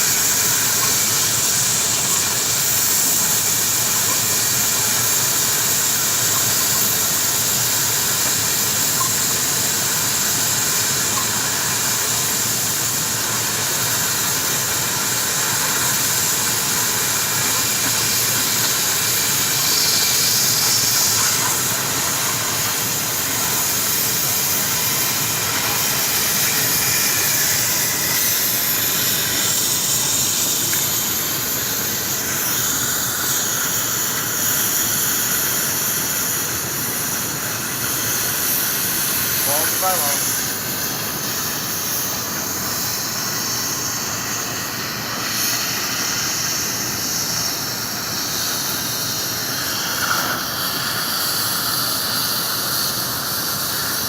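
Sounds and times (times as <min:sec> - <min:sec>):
pipe-cutting machine hissing: 0:00.0 - 0:54.0.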